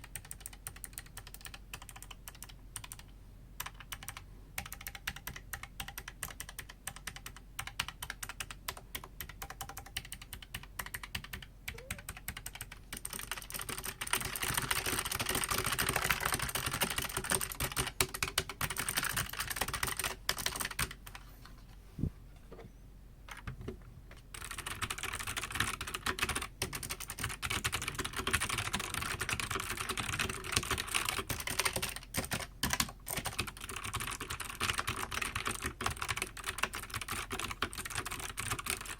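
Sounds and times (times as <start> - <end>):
clicky mechanical keyboard typing: 0.0 - 21.2, 23.3 - 38.9.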